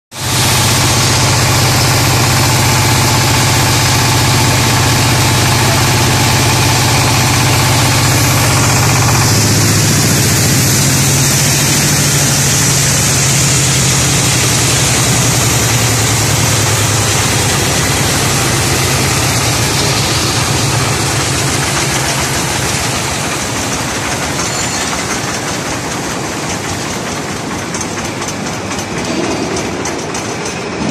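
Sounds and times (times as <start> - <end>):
diesel engine drone: 0.2 - 30.9.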